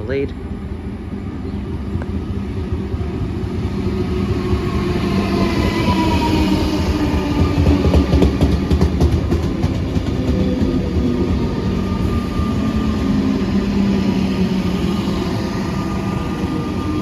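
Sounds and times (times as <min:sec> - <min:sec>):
low train hum: 0:00.0 - 0:17.0
train rumble: 0:00.0 - 0:17.0.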